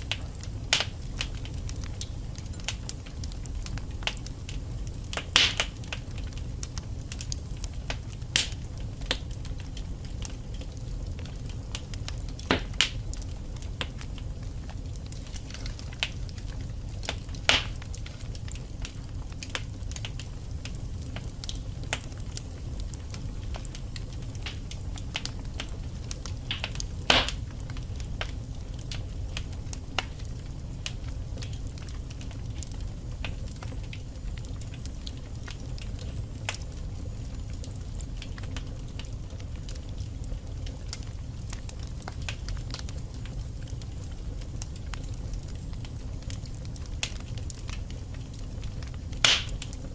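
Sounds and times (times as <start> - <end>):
burning logs popping: 0.0 - 49.9
wood fire crackling: 0.0 - 49.9.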